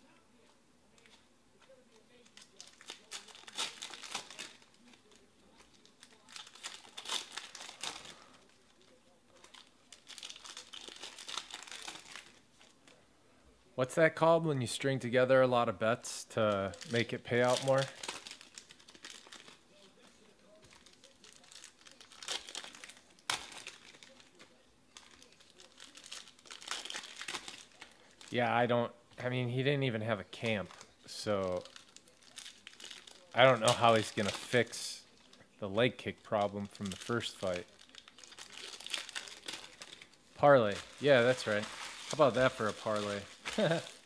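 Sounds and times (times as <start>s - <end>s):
foil wrapper crinkling and tearing: 2.0s - 13.0s, 16.5s - 28.5s, 30.4s - 35.4s, 36.3s - 44.0s.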